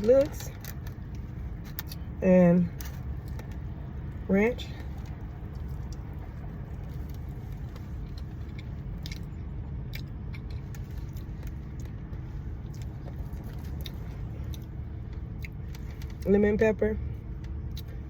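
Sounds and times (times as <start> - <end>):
person chewing: 0.0 - 4.2, 4.8 - 16.2, 17.4 - 18.0
steady low rumble: 0.0 - 18.0.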